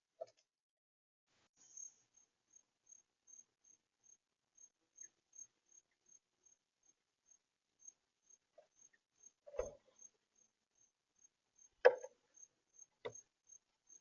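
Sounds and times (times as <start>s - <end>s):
insect chirping: 1.6s - 14.0s.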